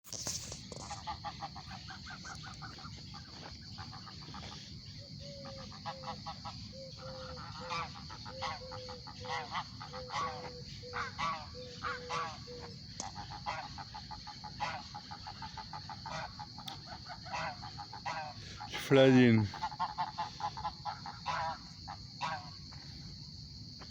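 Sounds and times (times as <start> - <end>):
geese honking in flight: 0.8 - 4.7, 5.4 - 22.6.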